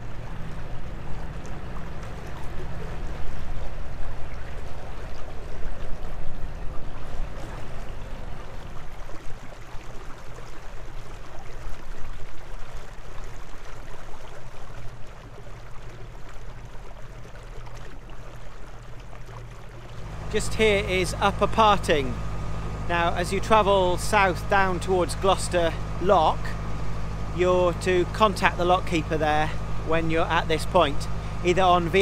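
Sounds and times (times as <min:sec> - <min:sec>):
water rushing past boat bow: 0:00.0 - 0:32.0.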